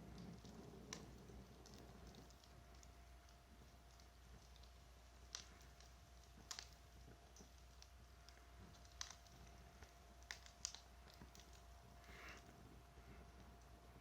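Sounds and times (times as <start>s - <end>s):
bonfire wood crackling: 0.0s - 14.0s.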